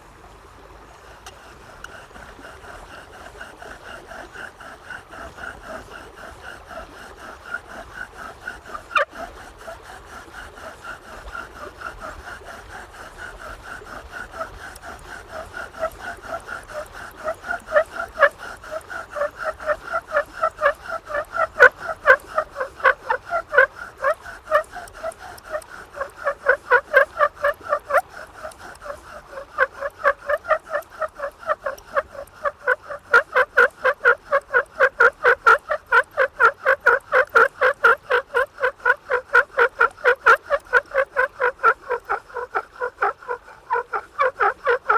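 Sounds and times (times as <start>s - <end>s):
bow drill squeaking: 1.3s - 44.9s.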